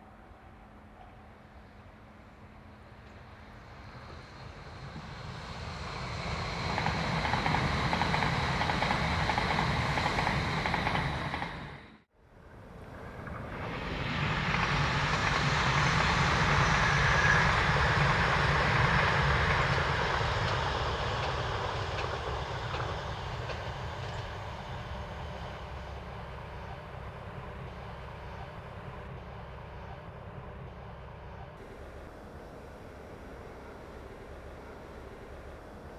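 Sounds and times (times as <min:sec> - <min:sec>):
train rumble and wheel noise: 0:00.0 - 0:35.9.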